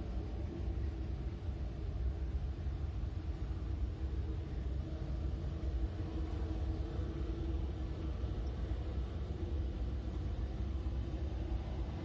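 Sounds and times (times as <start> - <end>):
jet engine hum: 0.0 - 12.0
jet engines low rumble: 0.0 - 12.0.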